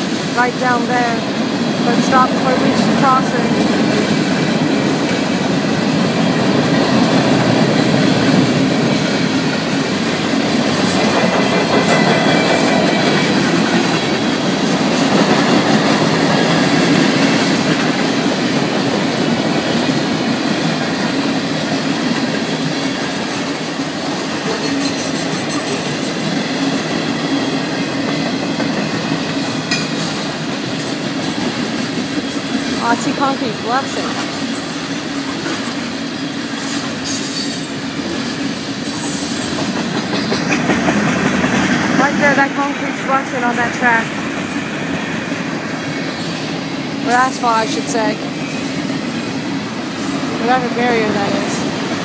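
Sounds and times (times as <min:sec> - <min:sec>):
freight train wheels clattering: 0:01.3 - 0:52.0.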